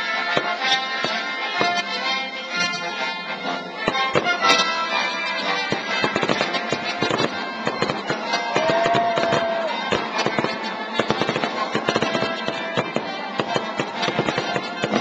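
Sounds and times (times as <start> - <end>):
fireworks banging: 0.0 - 3.0, 3.8 - 15.0
orchestral music: 0.0 - 15.0.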